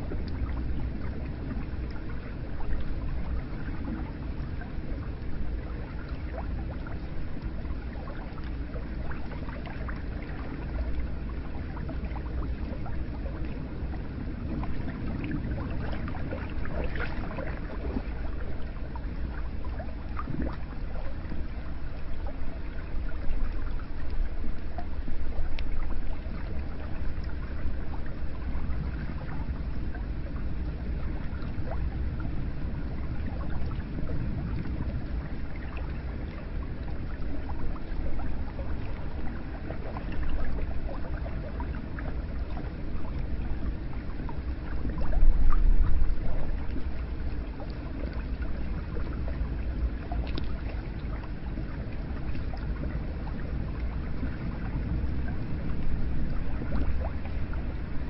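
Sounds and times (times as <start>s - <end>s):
water splashes and drips: 0.0s - 58.0s.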